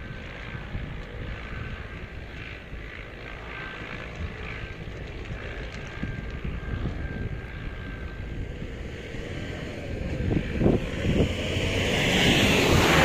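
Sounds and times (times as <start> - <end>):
wind buffeting microphone: 0.0 - 3.2, 3.8 - 13.0
distant vehicle engines rumbling: 0.0 - 13.0.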